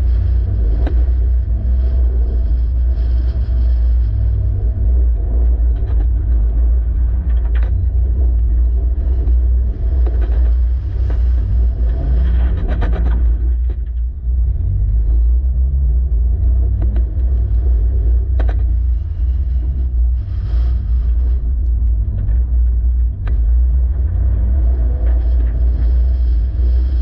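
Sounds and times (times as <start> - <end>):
heavy low rumble: 0.0 - 27.0.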